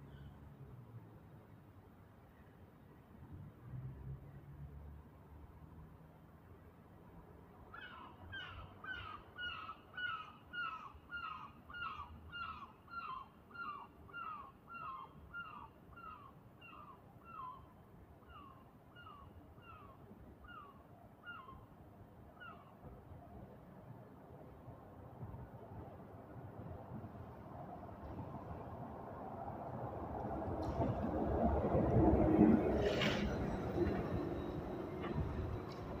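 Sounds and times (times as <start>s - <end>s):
faint street hum: 0.0s - 36.0s.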